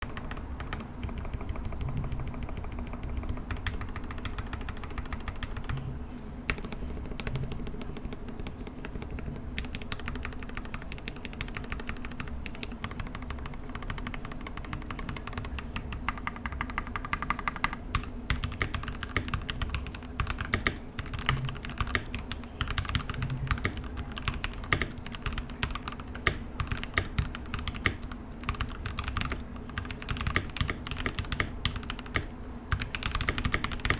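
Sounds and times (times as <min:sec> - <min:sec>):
mechanical keyboard typing: 0:00.0 - 0:05.9, 0:06.5 - 0:33.9.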